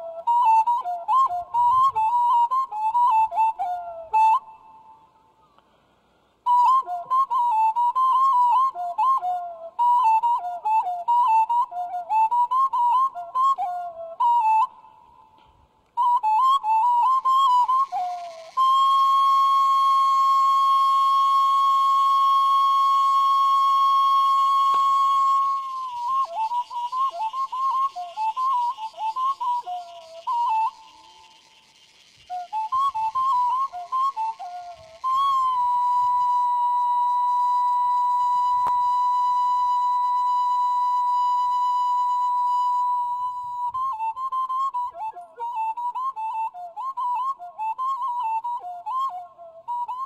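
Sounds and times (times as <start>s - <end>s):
solo flute: 0.0s - 5.8s, 6.4s - 50.0s.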